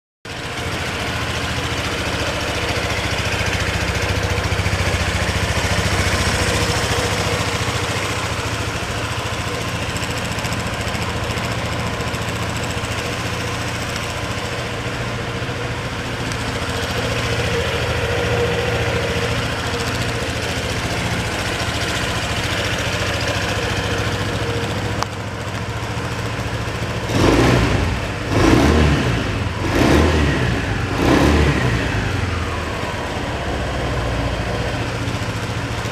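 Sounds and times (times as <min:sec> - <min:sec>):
scooter engine idling: 0:00.3 - 0:35.9
scooter engine revving: 0:00.3 - 0:35.9.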